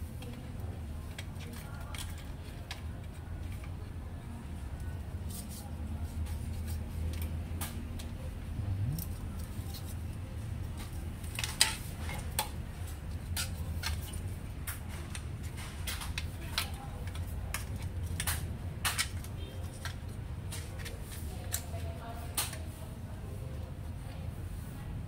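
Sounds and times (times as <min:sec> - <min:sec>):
low steady hum: 0:00.0 - 0:20.8.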